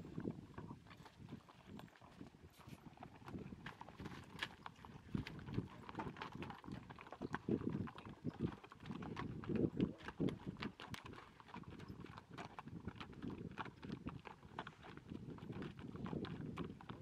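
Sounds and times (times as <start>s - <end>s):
mule hooves clopping on rocky trail: 0.0s - 17.0s.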